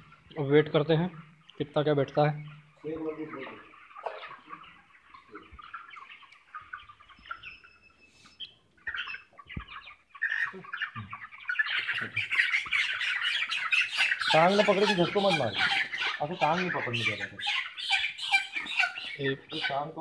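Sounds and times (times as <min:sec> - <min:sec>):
chickens peeping and chirping: 0:00.0 - 0:20.0
chickens squawking: 0:00.0 - 0:20.0.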